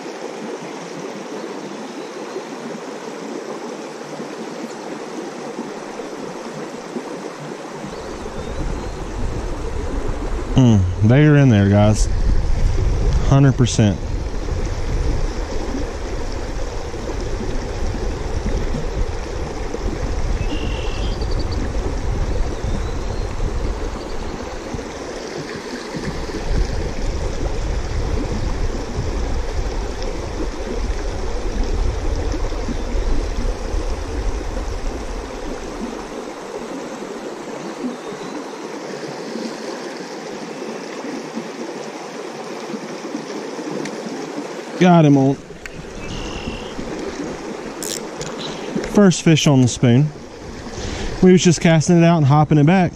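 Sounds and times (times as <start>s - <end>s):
creek water rushing over rocks: 0.0s - 52.9s.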